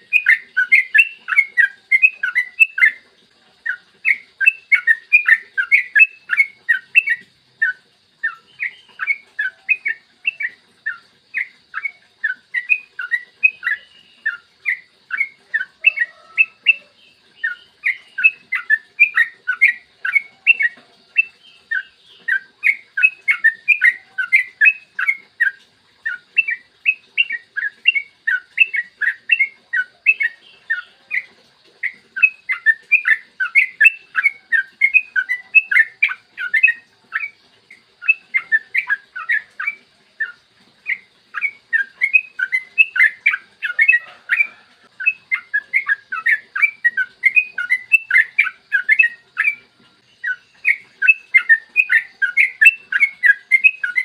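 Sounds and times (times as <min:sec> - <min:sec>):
bulbul singing chattering notes: 0:00.0 - 0:03.0, 0:03.6 - 0:54.0.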